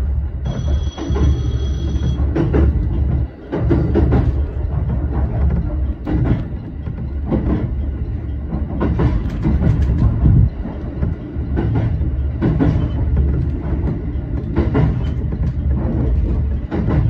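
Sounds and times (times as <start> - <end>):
train rumble from cab: 0.0 - 17.0
wheels clacking over rail joints: 0.0 - 17.0.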